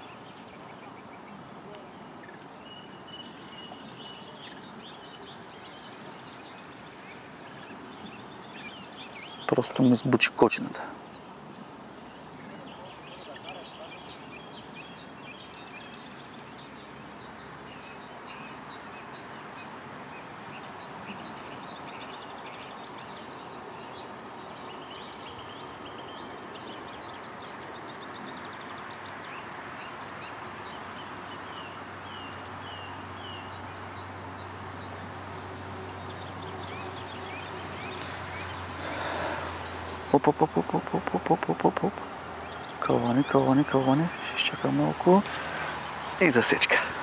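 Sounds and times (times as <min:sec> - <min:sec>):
small birds singing: 0:00.0 - 0:47.0
steady background hiss: 0:00.0 - 0:47.0.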